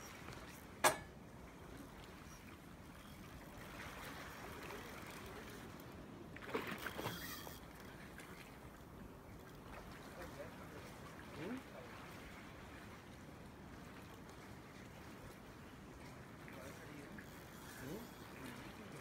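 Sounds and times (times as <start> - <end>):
sea water lapping: 0.0 - 19.0.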